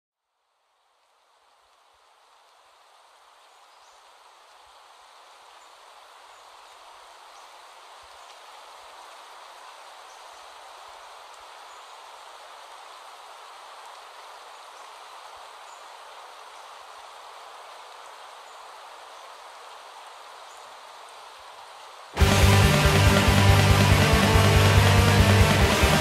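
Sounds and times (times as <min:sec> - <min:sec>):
steady rain falling: 0:00.2 - 0:26.0.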